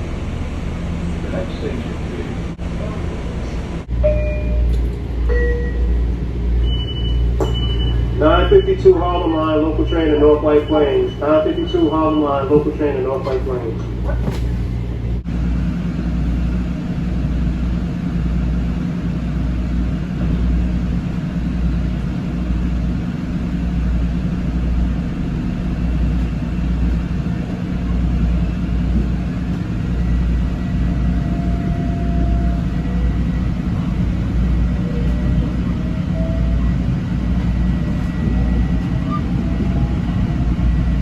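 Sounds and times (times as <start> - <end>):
train wheels rumbling on track: 0.0 - 41.0.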